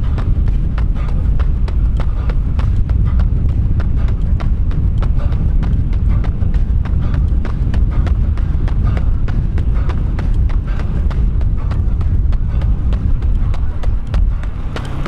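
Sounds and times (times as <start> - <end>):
running footsteps on hard surface: 0.0 - 15.0
wind buffeting microphone: 0.0 - 15.0.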